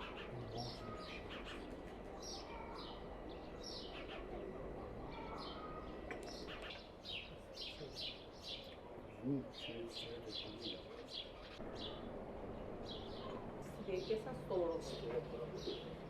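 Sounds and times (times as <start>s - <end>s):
birds chirping: 0.0s - 16.0s
steady low background noise: 0.0s - 16.0s.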